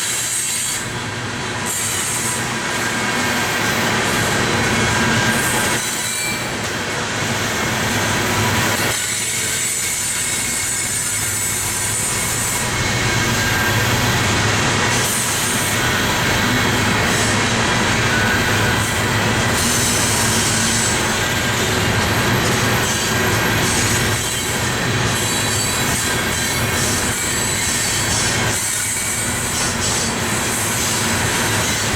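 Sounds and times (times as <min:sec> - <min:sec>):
train cars rolling on rails: 0:00.0 - 0:31.9
faint high wheel squeal: 0:01.7 - 0:06.6, 0:07.4 - 0:14.3, 0:15.0 - 0:31.9.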